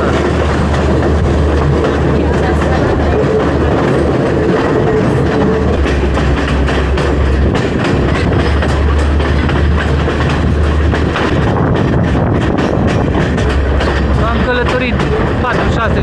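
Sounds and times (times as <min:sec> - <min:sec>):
train wheels rumbling on rails: 0:00.0 - 0:16.0
wheels clacking over rail joints: 0:00.0 - 0:16.0.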